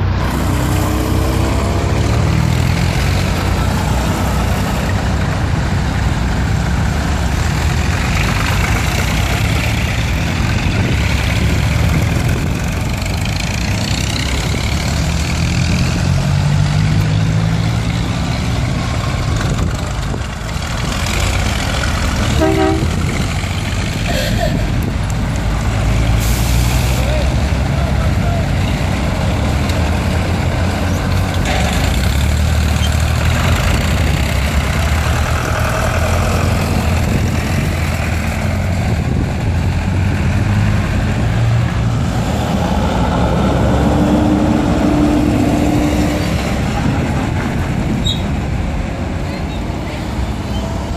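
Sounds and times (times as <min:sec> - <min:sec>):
tractor engines passing: 0:00.0 - 0:50.9.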